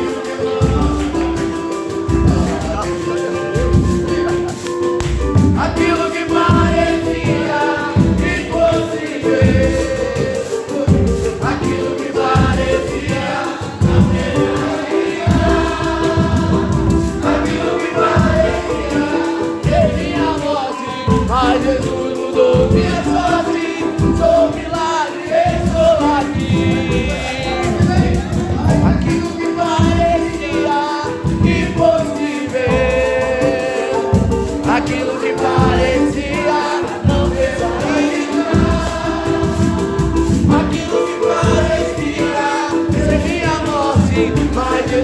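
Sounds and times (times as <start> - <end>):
band accompaniment: 0.0 - 45.0
choir singing gospel song: 0.0 - 45.0.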